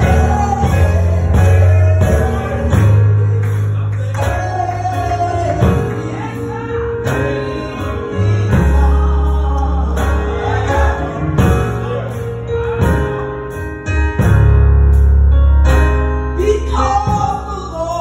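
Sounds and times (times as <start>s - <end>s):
instrumental accompaniment: 0.0s - 18.0s.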